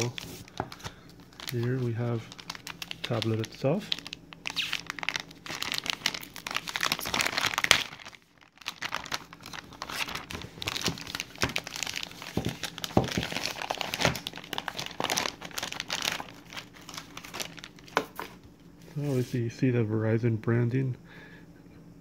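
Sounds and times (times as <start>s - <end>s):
plastic sleeve crinkling: 0.0s - 18.4s.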